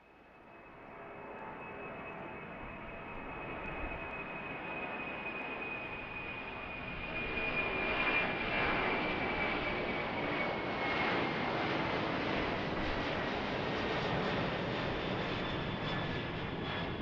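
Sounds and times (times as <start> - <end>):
jet engines whining overhead: 0.3 - 17.0.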